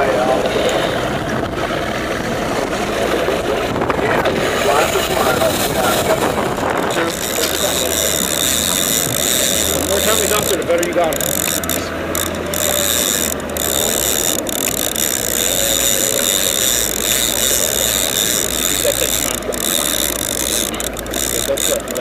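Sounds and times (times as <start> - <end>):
boat engine hum: 0.0 - 22.0
fishing reel ratcheting: 2.6 - 22.0.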